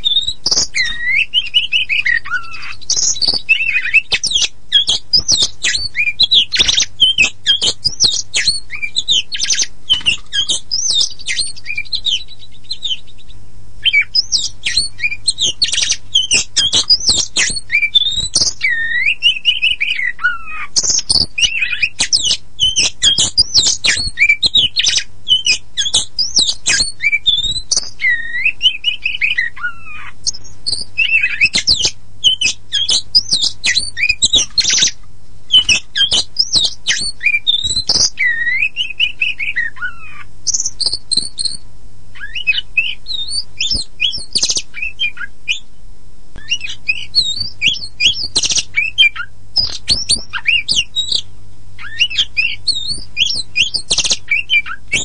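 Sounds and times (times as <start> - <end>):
magpie-robin singing varied whistles: 0.0 - 45.8, 46.4 - 55.0
faint low hum: 0.0 - 55.0.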